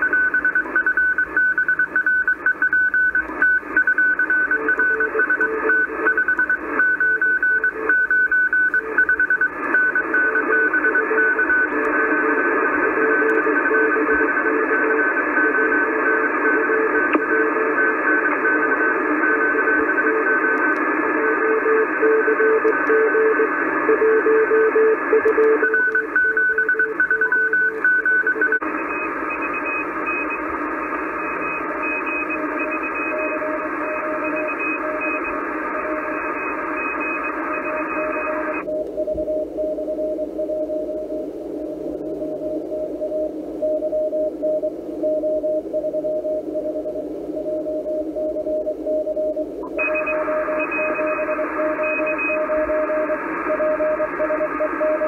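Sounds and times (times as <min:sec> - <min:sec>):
morse code tones: 0:00.0 - 0:55.0.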